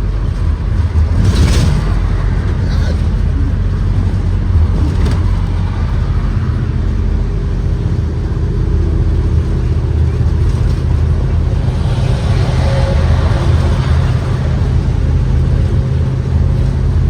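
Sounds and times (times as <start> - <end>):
bus engine low drone: 0.0 - 17.0
road noise: 0.0 - 17.0.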